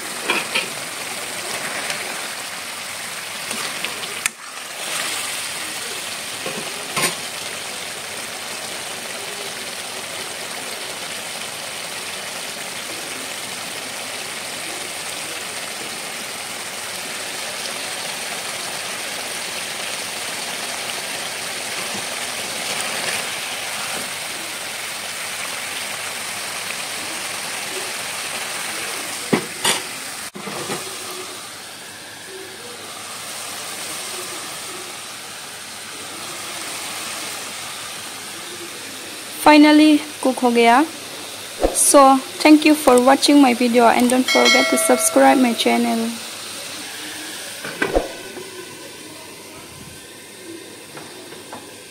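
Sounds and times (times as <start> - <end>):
curry sizzling in a pan: 0.0 - 51.9.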